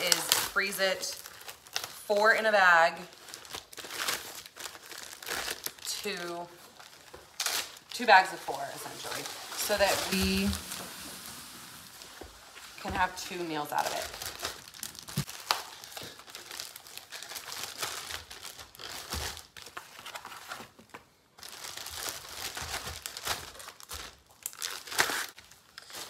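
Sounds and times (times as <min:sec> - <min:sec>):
plastic bags crinkling: 0:00.0 - 0:20.7, 0:21.4 - 0:26.0.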